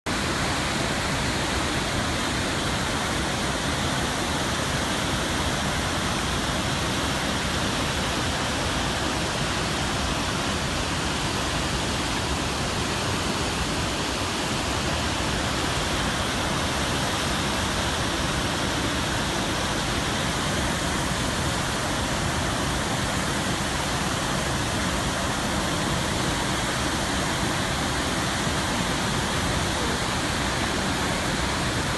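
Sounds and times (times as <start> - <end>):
large waterfall rushing: 0.1 - 31.9.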